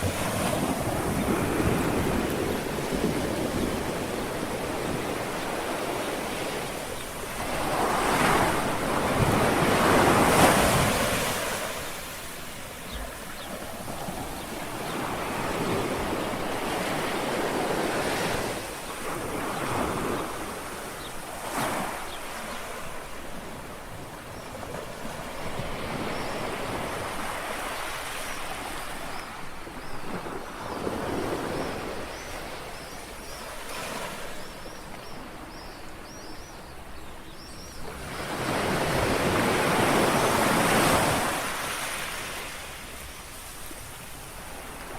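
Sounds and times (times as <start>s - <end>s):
small waves lapping on shore: 0.0s - 44.9s.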